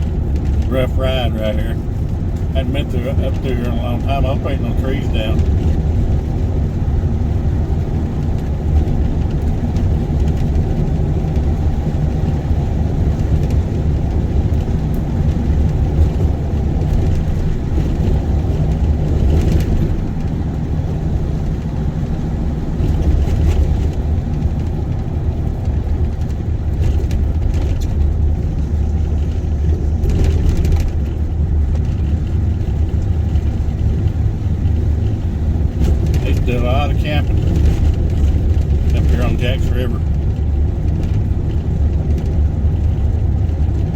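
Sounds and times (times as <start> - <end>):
vehicle engine and tyres rumbling: 0.0 - 43.9.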